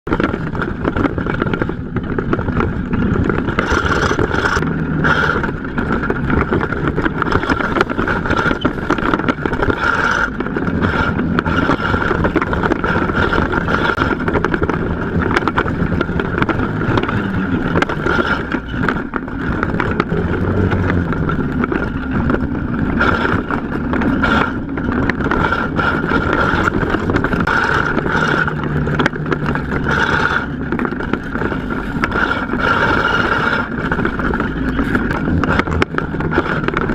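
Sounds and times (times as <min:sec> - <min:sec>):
small buggy engine running: 0:00.1 - 0:36.9.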